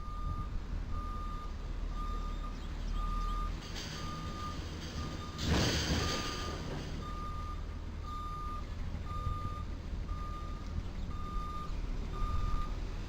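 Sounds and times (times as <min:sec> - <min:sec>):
reversing alarm beeping: 0:00.0 - 0:12.7
low engine rumble: 0:00.0 - 0:13.0.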